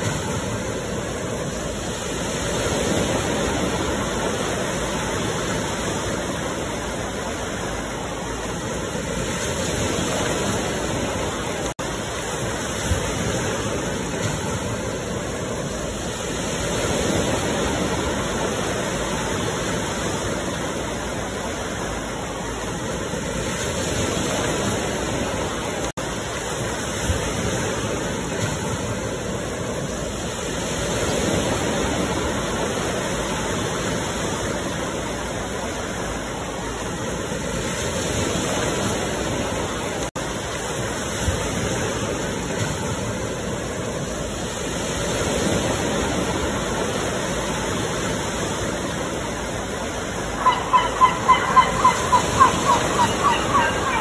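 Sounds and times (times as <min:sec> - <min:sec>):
ocean surf washing on shore: 0:00.0 - 0:54.0.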